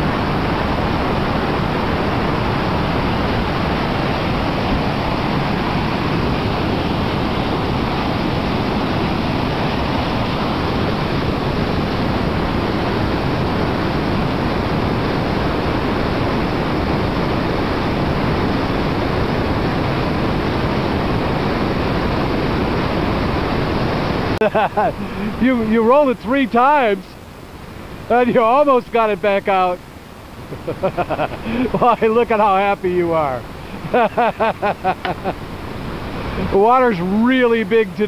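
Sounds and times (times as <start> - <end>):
river rapids roaring: 0.0 - 38.0.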